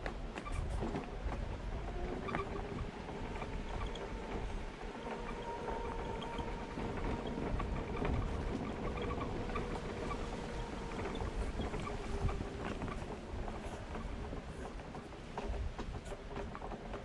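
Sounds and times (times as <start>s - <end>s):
wind on microphone: 0.4s - 16.8s
wheels rumbling over trail: 0.4s - 17.0s.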